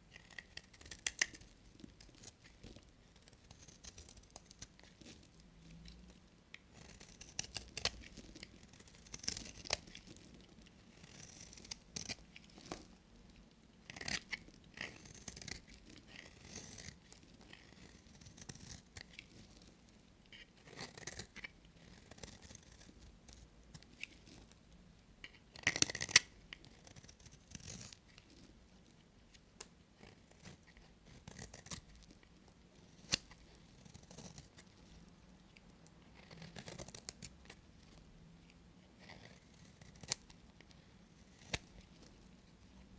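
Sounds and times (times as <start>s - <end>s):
knife cutting soap: 0.1s - 5.2s, 6.5s - 12.9s, 13.8s - 19.3s, 20.4s - 24.4s, 25.3s - 28.4s, 30.0s - 32.1s, 32.8s - 37.9s, 39.0s - 42.2s.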